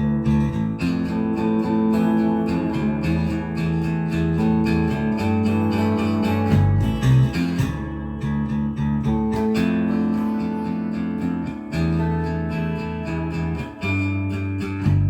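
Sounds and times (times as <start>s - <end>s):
bass notes: 0.0s - 15.0s
strummed and picked guitar: 0.0s - 15.0s.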